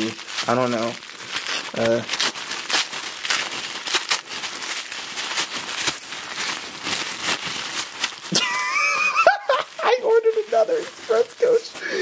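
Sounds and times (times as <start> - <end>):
wrapping paper tearing and crumpling: 0.0 - 12.0.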